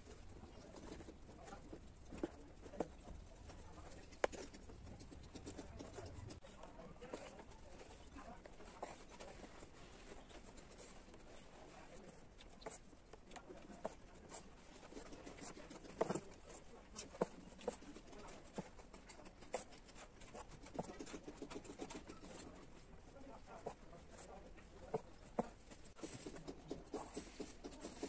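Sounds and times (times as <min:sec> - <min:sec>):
fingers handling plastic hoop: 0:00.0 - 0:28.0
needle and thread through cloth: 0:00.0 - 0:28.0.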